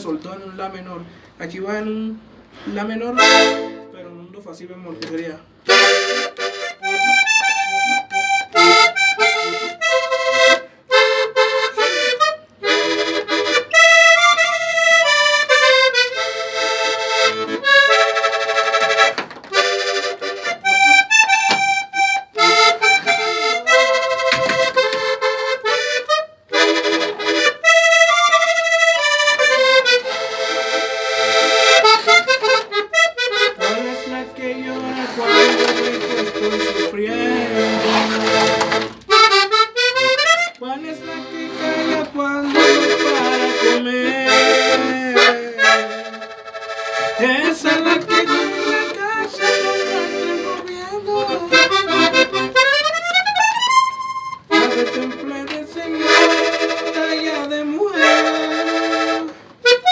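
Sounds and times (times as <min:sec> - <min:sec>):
button accordion melody: 0:02.2 - 0:04.4, 0:05.2 - 0:59.9.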